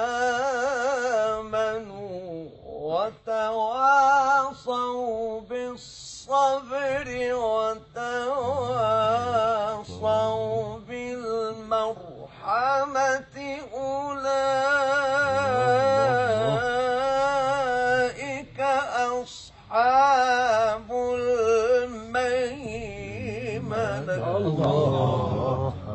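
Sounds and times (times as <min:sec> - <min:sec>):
man chanting melodically: 0:00.0 - 0:25.9.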